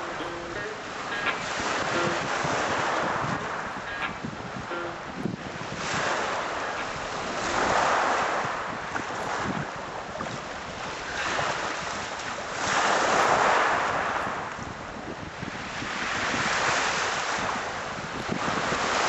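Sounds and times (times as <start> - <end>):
waves breaking on shingle beach: 0.0 - 19.0
wind buffeting microphone: 0.0 - 19.0.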